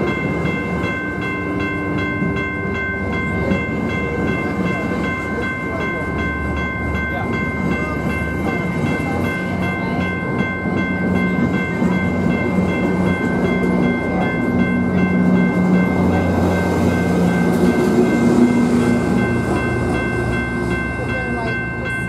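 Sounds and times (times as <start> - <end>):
diesel train engine: 0.0 - 22.0.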